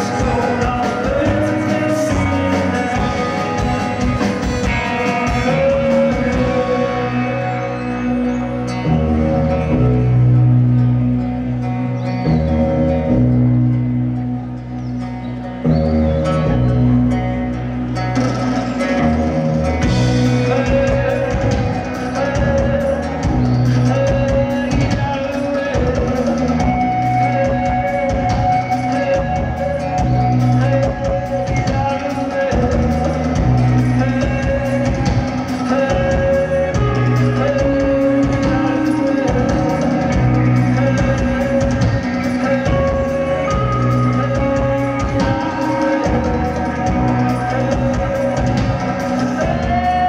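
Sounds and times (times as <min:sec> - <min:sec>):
drum kit: 0:00.0 - 0:08.0, 0:17.8 - 0:50.0
man singing: 0:00.0 - 0:11.0, 0:18.6 - 0:50.0
bass guitar: 0:00.0 - 0:50.0
electric guitars: 0:00.0 - 0:50.0.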